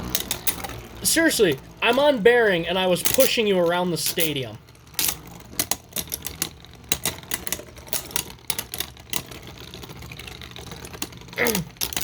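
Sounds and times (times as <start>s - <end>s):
spinning hum: 0.0s - 12.0s
spinning tops clicking and rattling: 0.0s - 12.0s.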